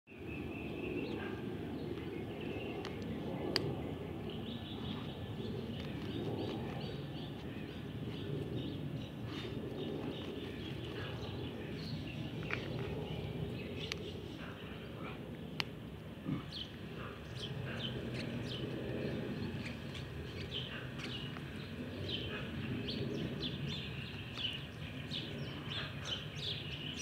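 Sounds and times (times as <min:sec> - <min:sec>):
small birds chirping: 0:00.1 - 0:27.0.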